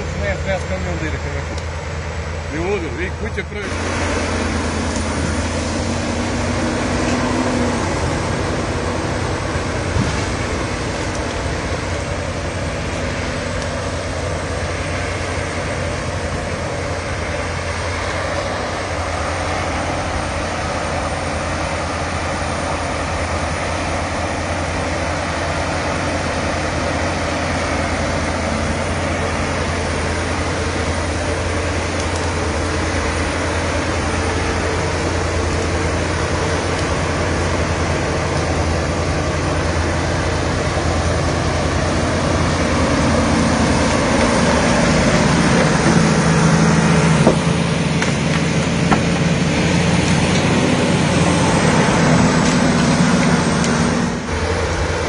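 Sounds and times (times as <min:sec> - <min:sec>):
bulldozer diesel engine humming: 0:00.0 - 0:55.0.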